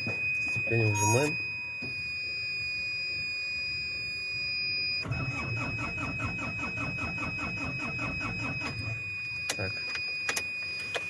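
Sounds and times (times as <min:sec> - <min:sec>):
high-pitched warning tone: 0:00.0 - 0:11.0.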